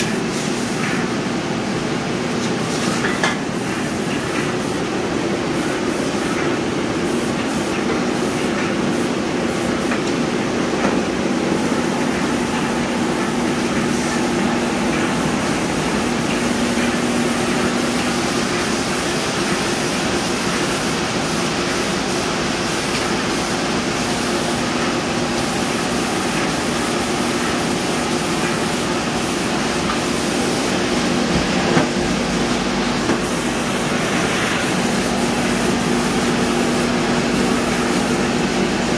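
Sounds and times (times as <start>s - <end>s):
spray gun hissing: 0.0s - 1.8s, 2.4s - 38.9s.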